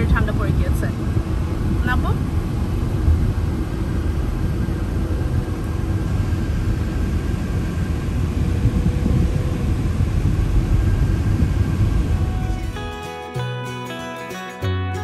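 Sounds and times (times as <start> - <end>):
car engine rumble: 0.0 - 14.0
road noise: 0.0 - 15.0.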